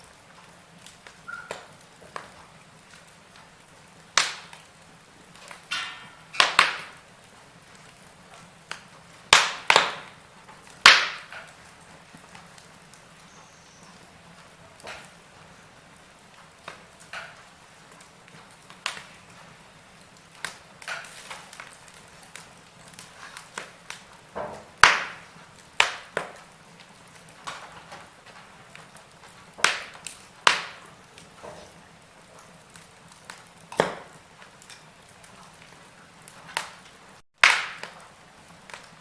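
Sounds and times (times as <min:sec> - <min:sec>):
faint steady hiss: 0:00.0 - 0:39.0
wood fire crackling: 0:00.0 - 0:39.0.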